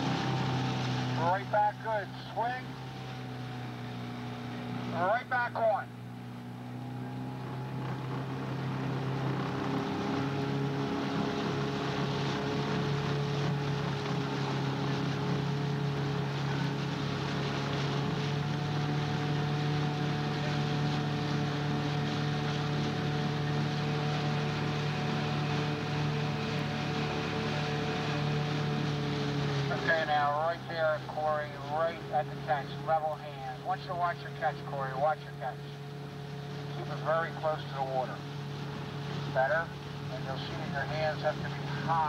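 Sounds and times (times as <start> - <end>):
boat motor running: 0.0 - 42.0.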